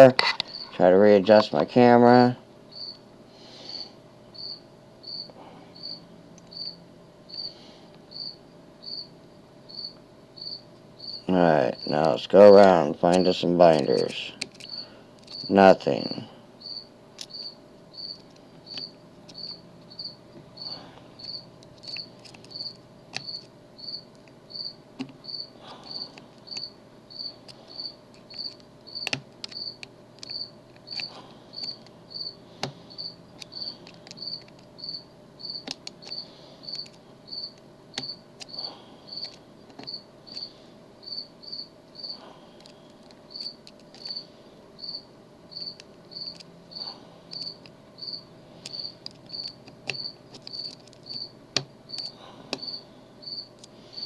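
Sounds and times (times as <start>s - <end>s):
cricket chirping: 0.4s - 3.0s, 3.7s - 42.4s, 43.3s - 54.0s.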